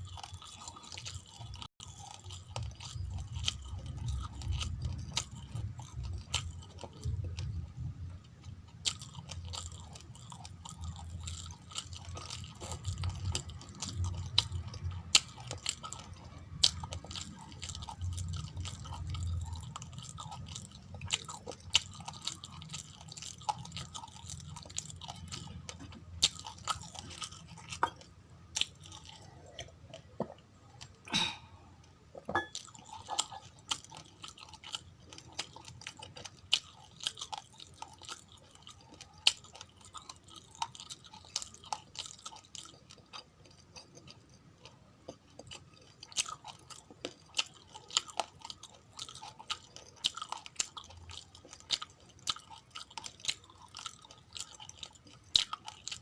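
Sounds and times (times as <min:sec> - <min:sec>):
chewing uncooked rice crunching: 0:00.0 - 0:07.6, 0:08.3 - 0:31.5, 0:32.5 - 0:56.0.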